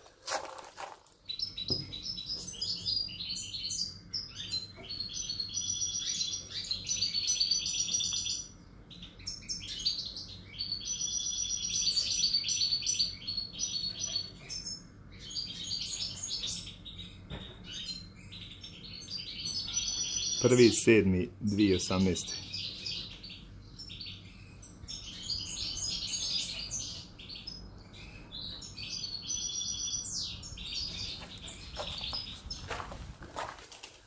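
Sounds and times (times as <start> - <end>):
goldfinch twittering song: 1.3 - 20.9, 21.5 - 32.8.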